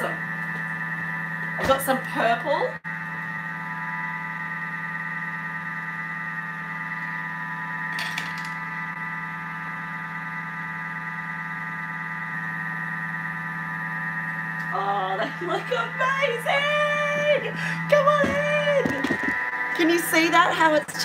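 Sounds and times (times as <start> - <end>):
food processor motor whine: 0.0 - 21.0.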